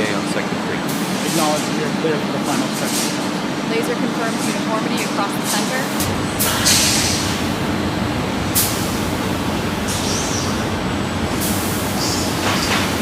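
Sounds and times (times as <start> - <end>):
industrial machinery rumbling: 0.0 - 13.0.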